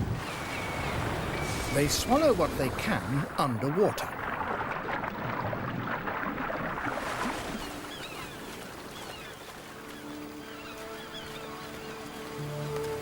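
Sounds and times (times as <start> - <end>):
water churning and splashing: 0.0 - 13.0.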